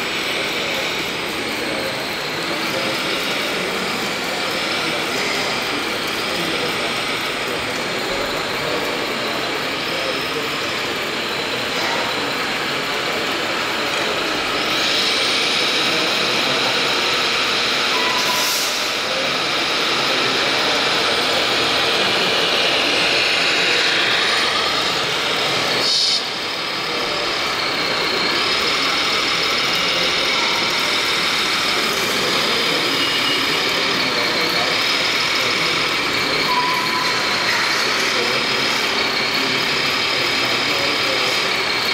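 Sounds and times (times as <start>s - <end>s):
busy exhibition hall noise: 0.0s - 41.9s.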